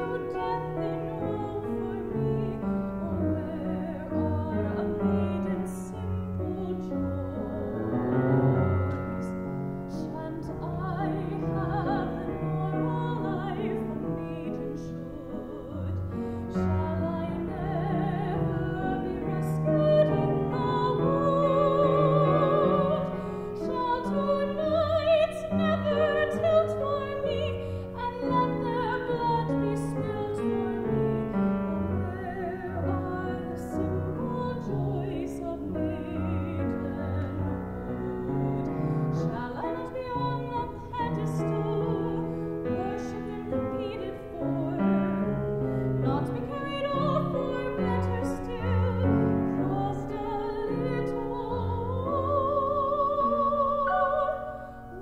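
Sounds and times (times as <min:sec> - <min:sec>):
grand piano: 0:00.0 - 0:55.0
woman singing operatically: 0:00.0 - 0:55.0.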